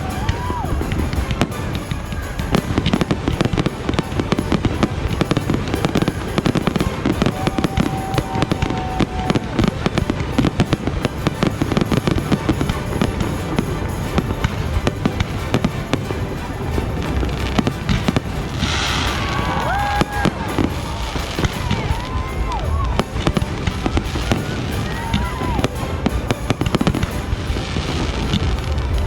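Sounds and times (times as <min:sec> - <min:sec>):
fireworks bangs and crackling: 0:00.0 - 0:29.0
music: 0:00.0 - 0:29.0.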